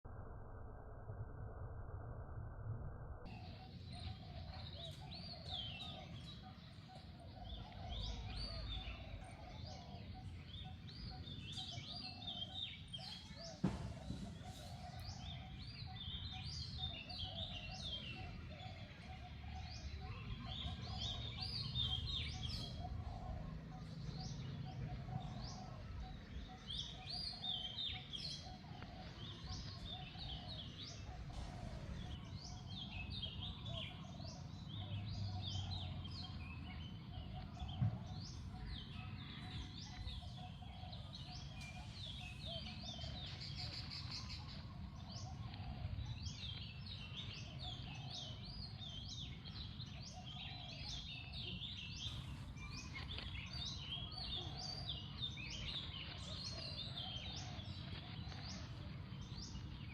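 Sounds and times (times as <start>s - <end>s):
low outdoor rumble: 0.0s - 59.9s
small birds chirping: 3.2s - 59.9s.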